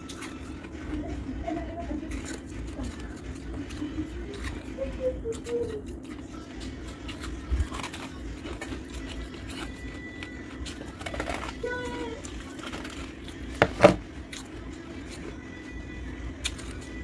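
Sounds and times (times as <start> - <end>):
low background hum: 0.0 - 17.0
frost crackling and crunching: 1.8 - 15.6.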